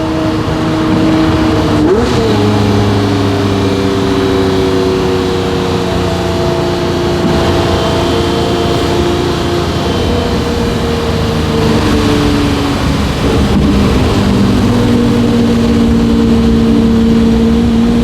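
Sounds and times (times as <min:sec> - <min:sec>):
sports car engine running: 0:00.0 - 0:18.0.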